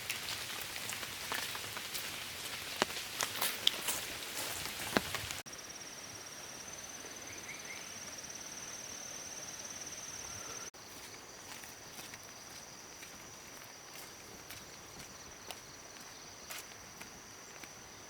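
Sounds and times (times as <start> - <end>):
soft outdoor hiss: 0.0 - 18.0.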